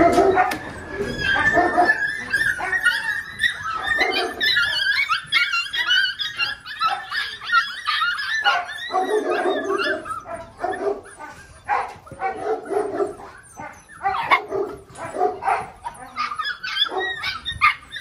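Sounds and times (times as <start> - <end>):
puppies yipping and barking: 0.0 - 18.0.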